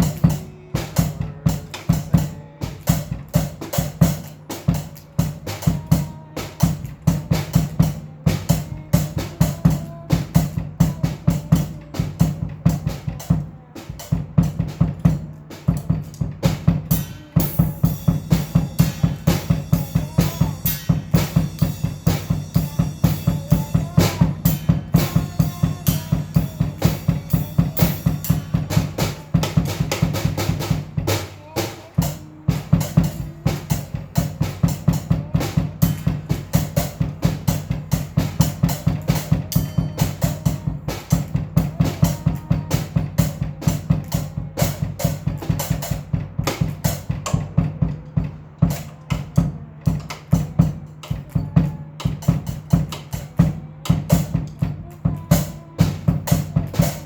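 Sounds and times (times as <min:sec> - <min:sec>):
drum kit rock beat: 0:00.0 - 0:57.0.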